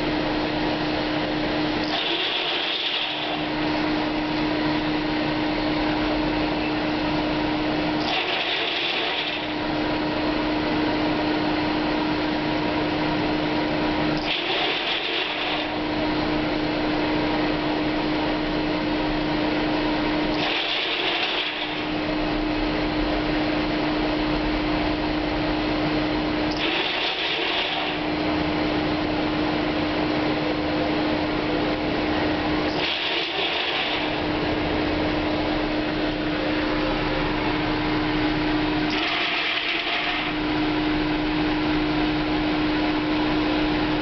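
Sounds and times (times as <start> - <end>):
grain dryer blower humming: 0.0 - 44.0.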